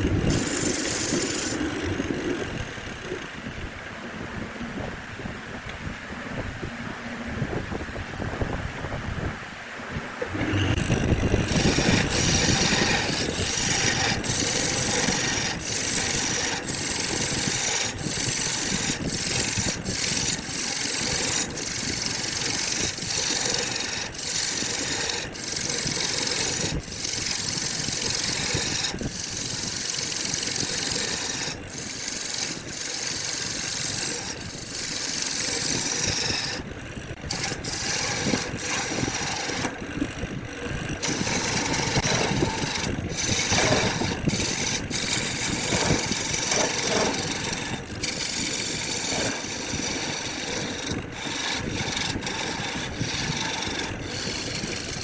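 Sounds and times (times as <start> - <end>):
tool scraping on wood: 0.0 - 3.2, 10.2 - 55.0.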